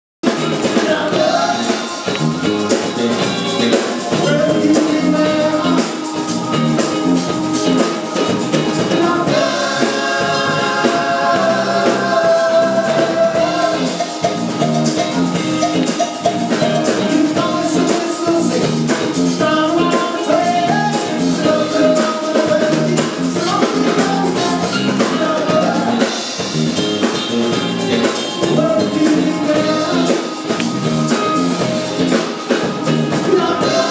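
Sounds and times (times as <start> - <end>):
drum kit: 0.2 - 33.9
live band playing: 0.2 - 33.9
person singing: 0.4 - 6.9, 7.6 - 15.2, 16.6 - 26.4, 28.4 - 30.7, 32.6 - 33.9.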